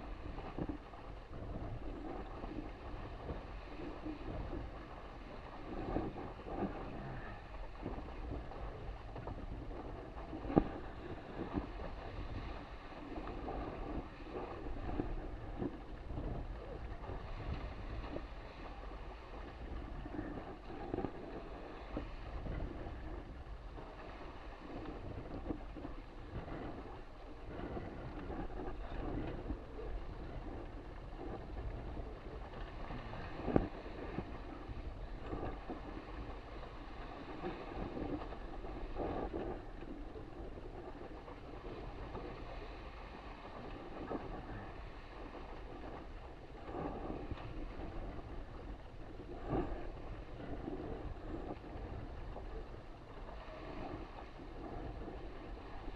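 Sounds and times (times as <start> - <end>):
water rushing past boat: 0.0 - 55.9
wind buffeting microphone: 0.0 - 55.9.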